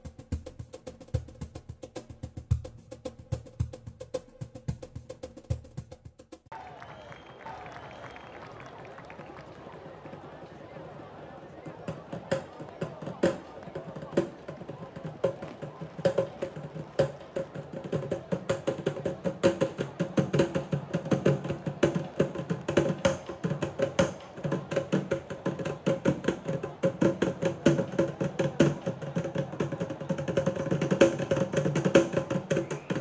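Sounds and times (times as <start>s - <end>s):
drums beating fast rhythm: 0.0s - 6.6s, 11.6s - 33.0s.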